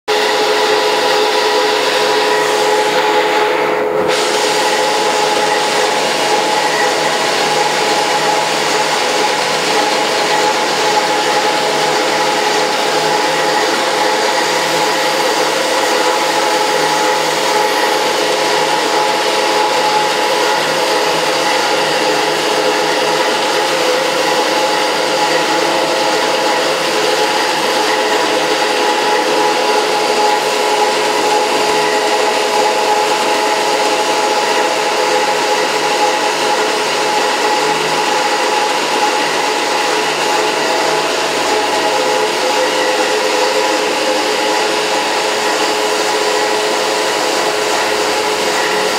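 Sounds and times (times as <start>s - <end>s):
machine humming: 0.1s - 48.9s.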